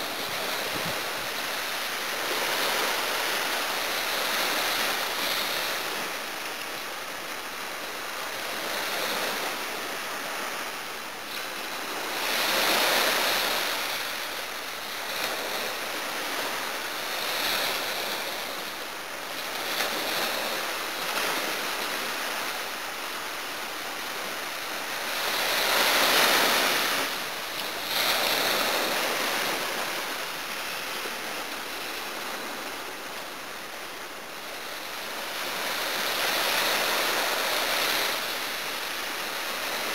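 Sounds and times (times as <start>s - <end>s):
small waves breaking on a beach: 0.0s - 39.9s.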